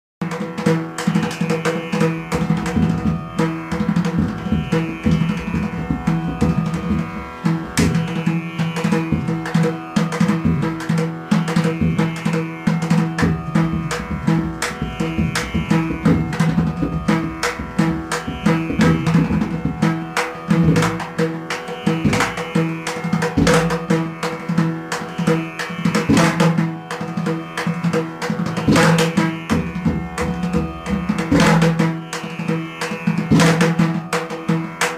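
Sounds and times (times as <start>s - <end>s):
droning wind instrument: 0.2s - 34.9s
drum ensemble playing fast: 0.3s - 32.0s.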